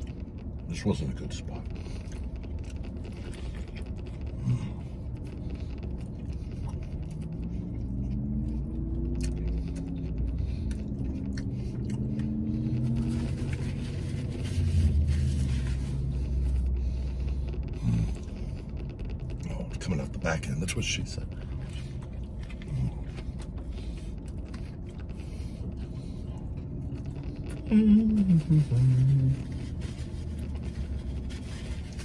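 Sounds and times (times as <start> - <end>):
vehicle engine rumble: 0.0 - 32.0.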